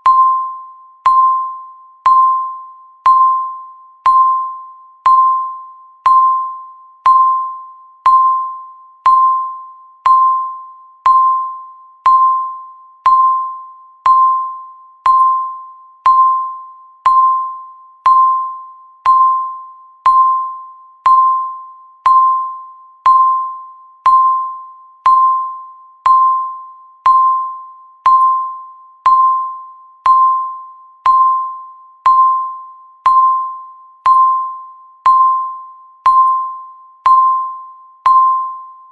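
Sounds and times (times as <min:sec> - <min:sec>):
timer electronic beeps: 0:00.0 - 0:38.9.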